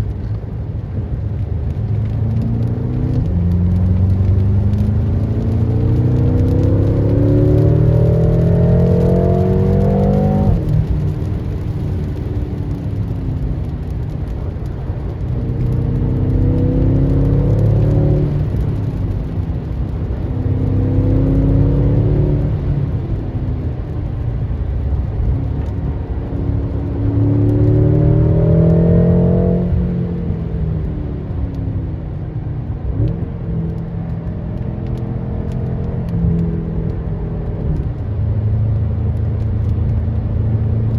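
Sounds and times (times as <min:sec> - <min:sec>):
car engine accelerating hard: 0:01.2 - 0:40.9.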